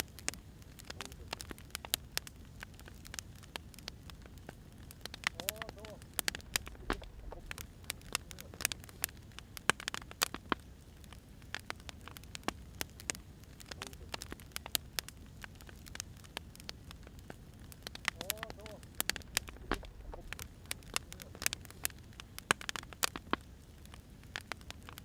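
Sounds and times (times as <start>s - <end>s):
low steady hiss: 0.0s - 25.0s
wood fire crackling and popping: 0.0s - 25.0s.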